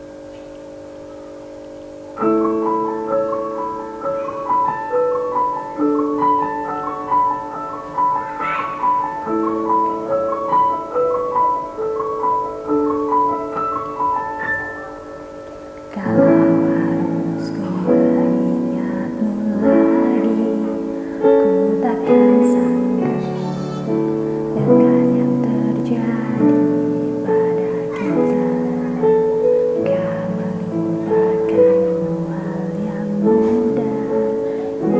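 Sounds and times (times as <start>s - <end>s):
piano broken chords: 0.0s - 34.9s.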